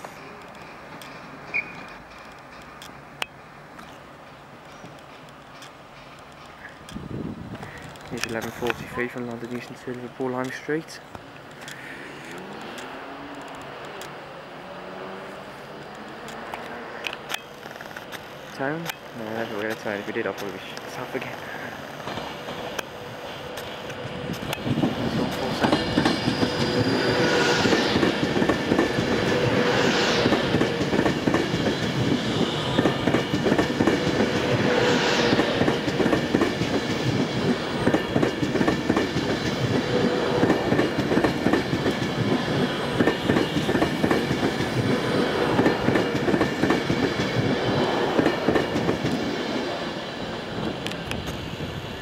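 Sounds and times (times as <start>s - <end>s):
train wheels clattering: 0.0s - 10.7s, 16.3s - 49.8s.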